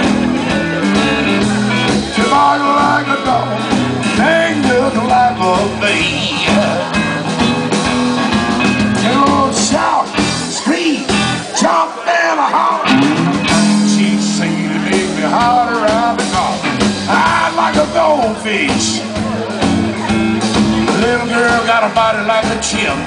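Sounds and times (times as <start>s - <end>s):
blues-rock band playing: 0.0s - 23.0s
sliding lead guitar line: 0.0s - 23.0s.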